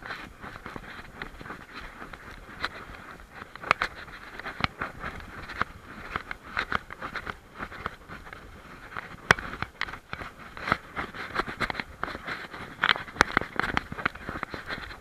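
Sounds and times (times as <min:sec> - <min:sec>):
dog paws on stony path: 0:00.0 - 0:15.0.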